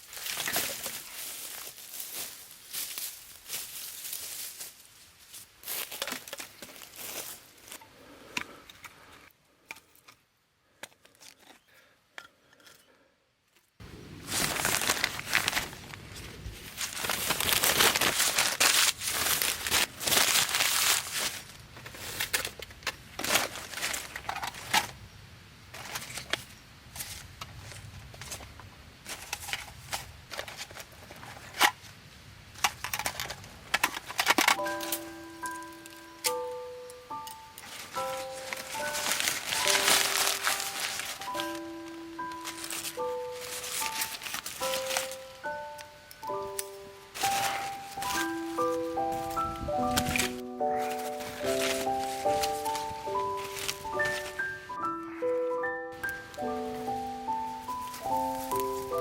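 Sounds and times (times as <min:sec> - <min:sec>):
material crinkling and rustling: 0:00.0 - 0:07.8, 0:13.6 - 0:25.0, 0:25.7 - 0:54.8, 0:56.0 - 0:59.0.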